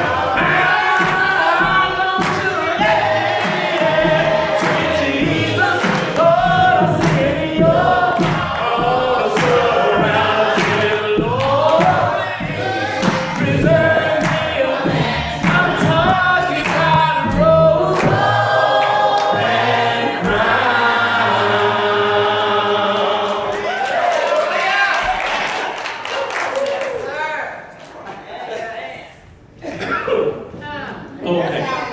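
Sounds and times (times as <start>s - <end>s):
choir singing gospel song: 0.0s - 26.0s.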